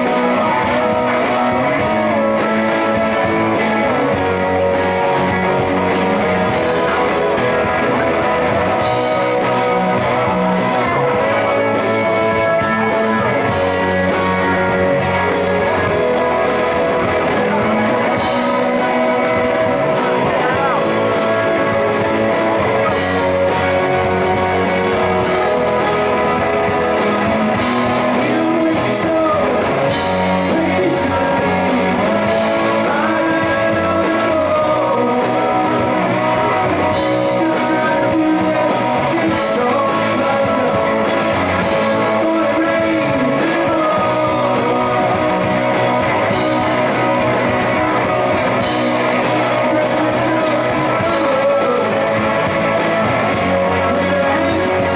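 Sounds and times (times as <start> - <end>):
man singing: 0.0 - 54.9
rock band with guitars: 0.0 - 54.9.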